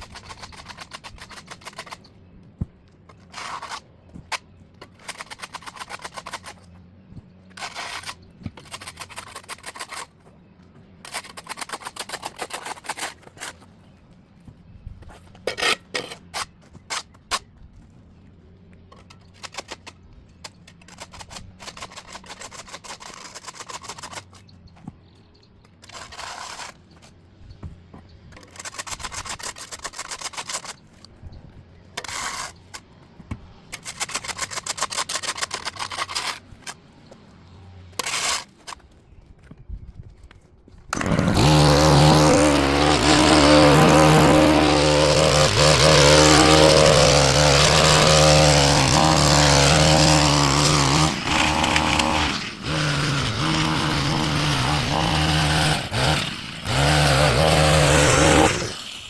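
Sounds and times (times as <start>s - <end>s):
hand tool scraping pavement: 0.0s - 6.8s, 7.4s - 14.0s, 15.0s - 17.5s, 18.9s - 24.9s, 25.8s - 31.3s, 31.9s - 37.2s, 37.9s - 39.1s, 40.8s - 59.0s.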